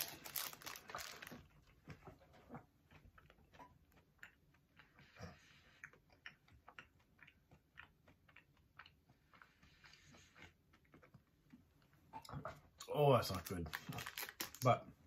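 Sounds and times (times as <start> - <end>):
crunchy chewing of candy: 0.0 - 11.6, 13.3 - 14.8.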